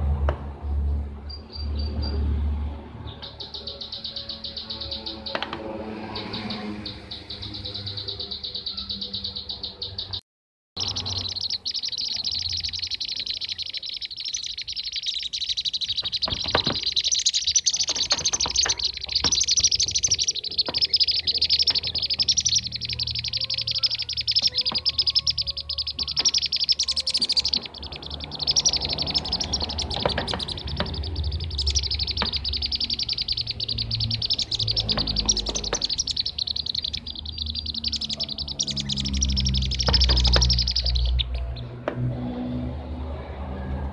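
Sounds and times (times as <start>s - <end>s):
bee-eater high chirps: 3.1s - 10.2s, 10.8s - 41.7s.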